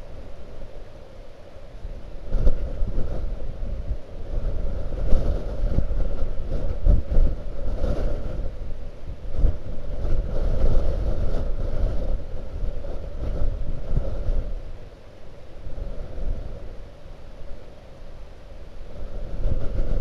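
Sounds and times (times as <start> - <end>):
wind buffeting microphone: 1.7 - 15.0, 15.6 - 18.0, 18.6 - 20.0.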